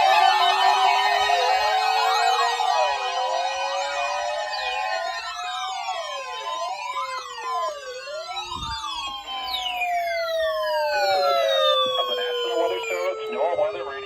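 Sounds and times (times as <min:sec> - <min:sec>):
sirens wailing: 0:00.0 - 0:14.0.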